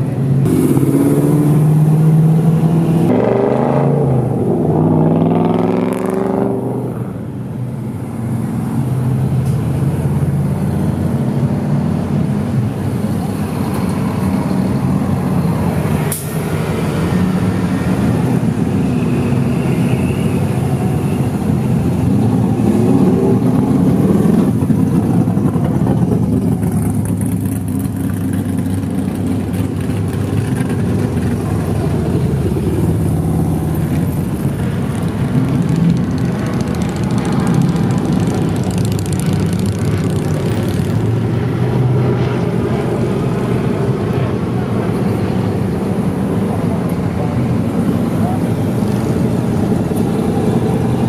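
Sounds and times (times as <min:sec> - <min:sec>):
cars and motorcycle driving past: 0:00.0 - 0:51.0.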